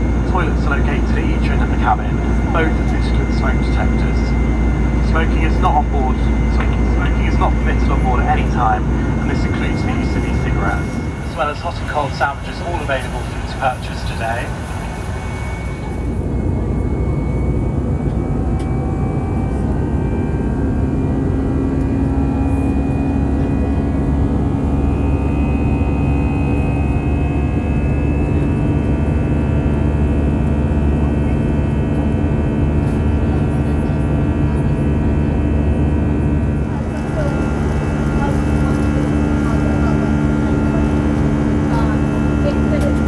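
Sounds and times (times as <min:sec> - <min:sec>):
faint whining tones: 0:00.0 - 0:43.0
jet engine drone in cabin: 0:00.0 - 0:43.0.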